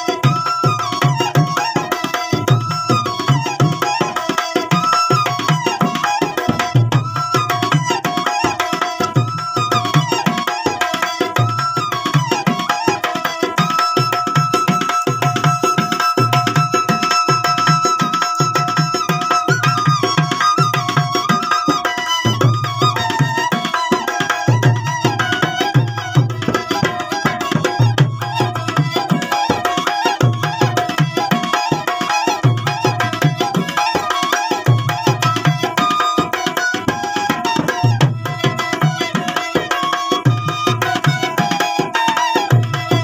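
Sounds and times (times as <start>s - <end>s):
hand drum beat: 0.0s - 43.0s
double flute melody with drone: 0.1s - 43.0s.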